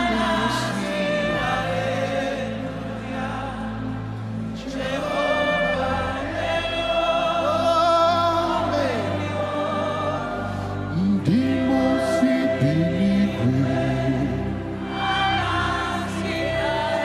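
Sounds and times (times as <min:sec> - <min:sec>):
low musical accompaniment: 0:00.0 - 0:17.0
voices singing gospel: 0:00.0 - 0:17.0.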